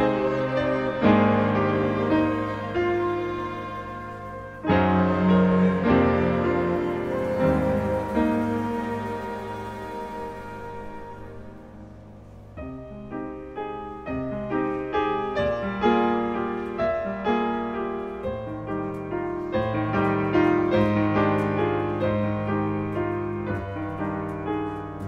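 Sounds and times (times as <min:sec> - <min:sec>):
grand piano playing: 0:00.0 - 0:25.0.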